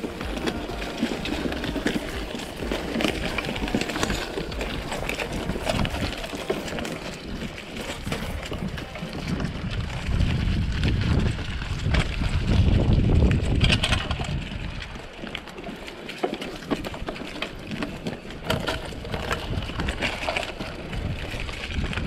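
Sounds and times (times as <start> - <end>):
wind buffeting microphone: 0.0 - 15.6, 16.6 - 22.0
bike rattling over rough ground: 0.0 - 22.0.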